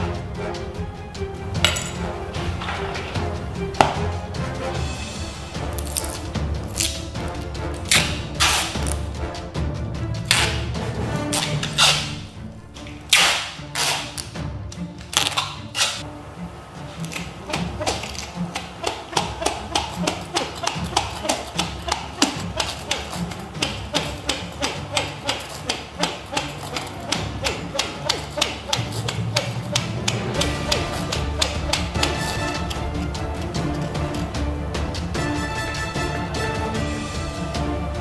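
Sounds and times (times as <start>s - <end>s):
background music: 0.0s - 38.0s.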